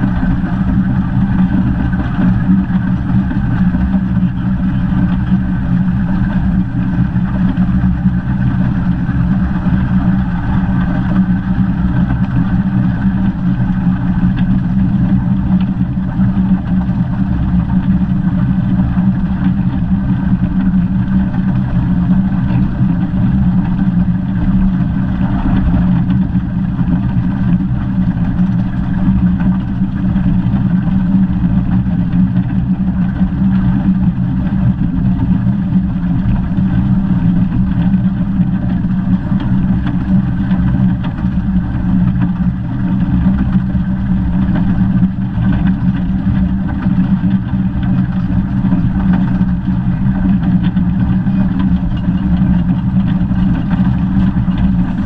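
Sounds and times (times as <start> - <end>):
steam locomotive low rumble: 0.0 - 55.0.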